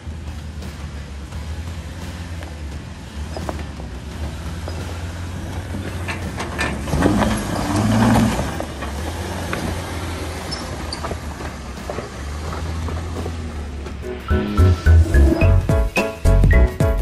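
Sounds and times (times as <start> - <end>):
engine running and revving: 0.0 - 15.8.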